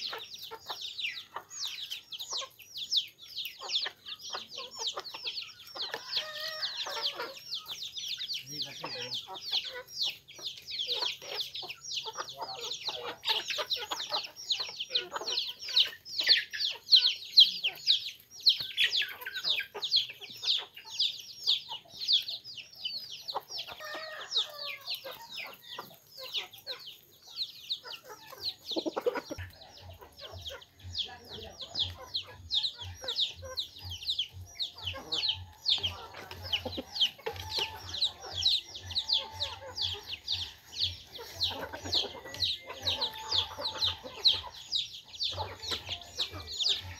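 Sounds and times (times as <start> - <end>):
beaks tapping on ground: 0.0 - 46.9
chicks peeping: 0.0 - 46.9
hens clucking: 0.0 - 46.9.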